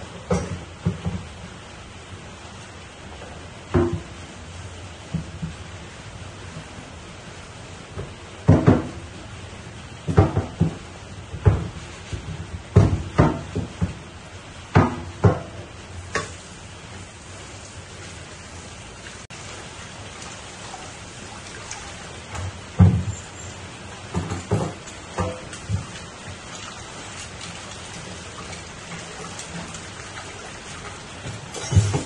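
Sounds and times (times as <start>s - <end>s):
broth bubbling in a pan: 0.0s - 32.0s.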